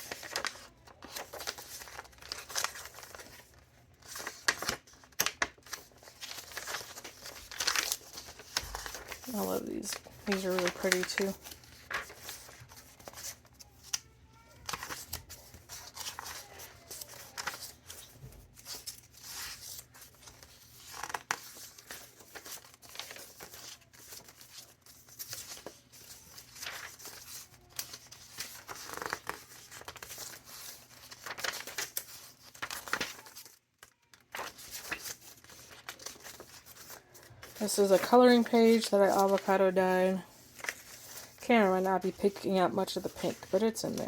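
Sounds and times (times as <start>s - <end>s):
paper pages rustling: 0.0s - 44.0s.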